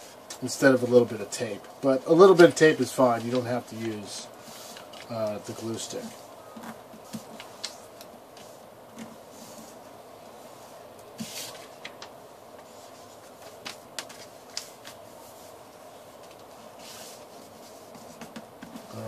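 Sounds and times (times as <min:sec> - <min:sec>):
paper rustling and folding: 0:00.0 - 0:09.8, 0:11.2 - 0:19.0
faint steady hum: 0:00.0 - 0:19.0.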